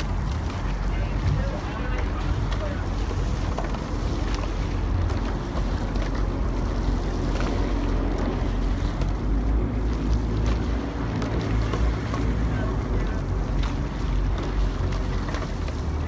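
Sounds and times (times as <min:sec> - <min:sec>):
motorboat engine rumble: 0:00.0 - 0:16.0
water washing past hull: 0:00.0 - 0:16.0
wind buffeting microphone: 0:00.0 - 0:16.0.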